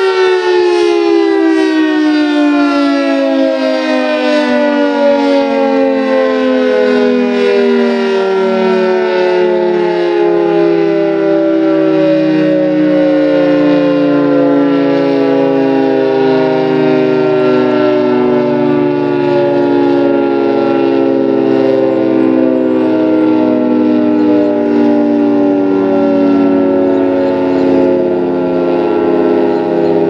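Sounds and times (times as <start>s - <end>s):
dual-tone siren: 0.0s - 30.0s.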